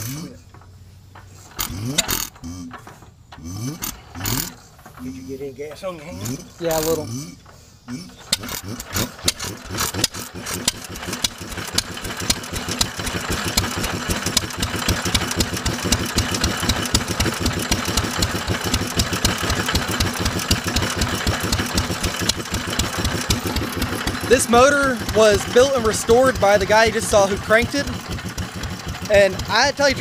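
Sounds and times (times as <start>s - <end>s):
flywheel engine running: 3.8s - 30.0s.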